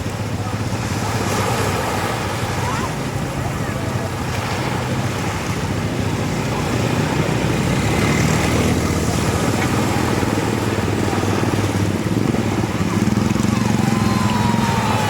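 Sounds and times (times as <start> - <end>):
engine humming: 0.0 - 15.0
sea waves: 0.0 - 15.0
wind: 0.0 - 15.0.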